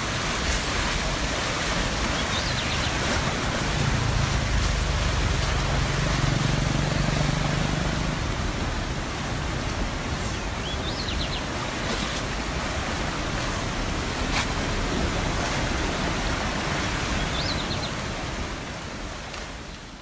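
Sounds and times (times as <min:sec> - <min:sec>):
flooded river rushing: 0:00.0 - 0:20.0.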